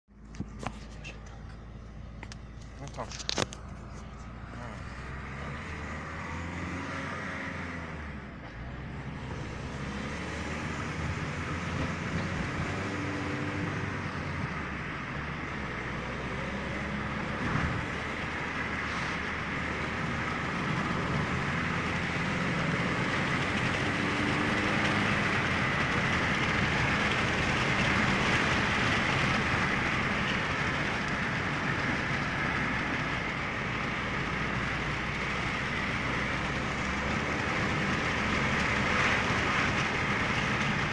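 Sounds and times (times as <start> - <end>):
vehicle running noise: 0.1 - 40.9.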